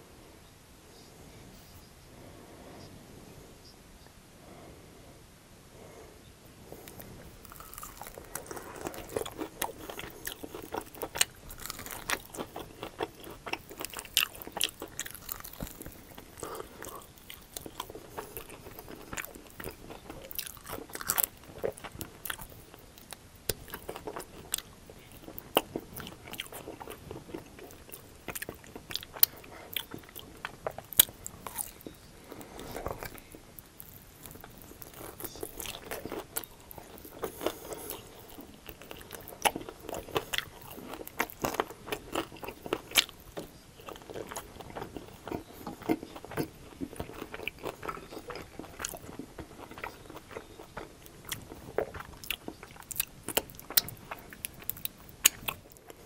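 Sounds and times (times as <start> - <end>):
crunchy biting: 6.7 - 56.0
wet chewing: 6.7 - 56.0.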